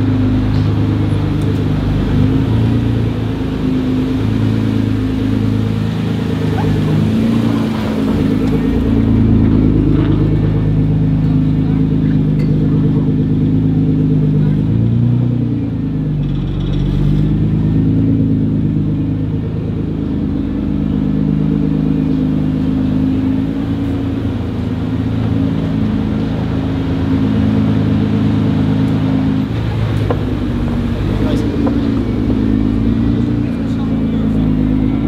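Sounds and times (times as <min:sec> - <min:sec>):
car exhaust burbling at low revs: 0:00.0 - 0:35.0.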